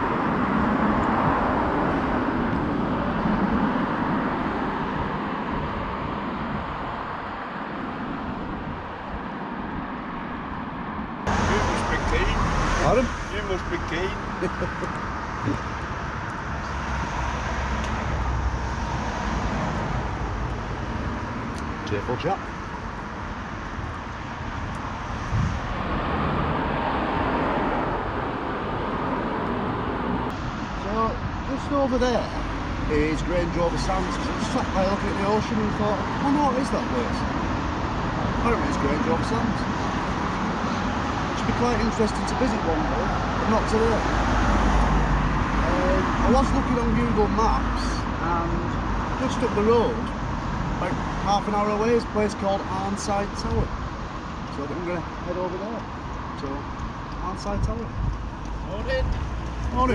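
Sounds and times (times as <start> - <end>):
road traffic hum: 0.0 - 59.9
vehicle passing: 0.0 - 59.9.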